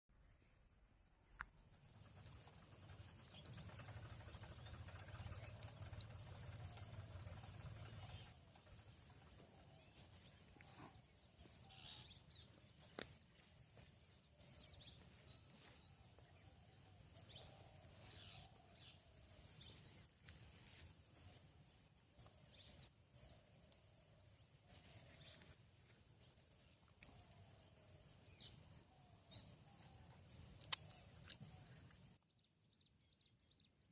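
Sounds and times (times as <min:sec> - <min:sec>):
insects trilling: 0:00.1 - 0:32.2.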